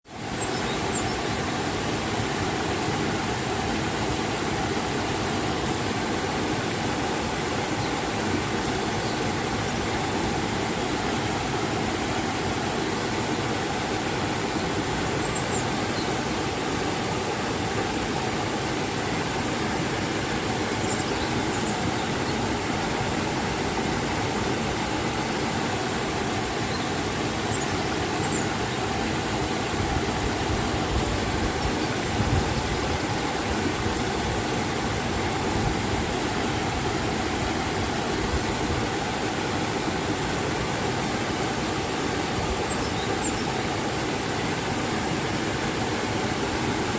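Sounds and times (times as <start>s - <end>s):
river and waterfall rushing: 0.1s - 46.9s.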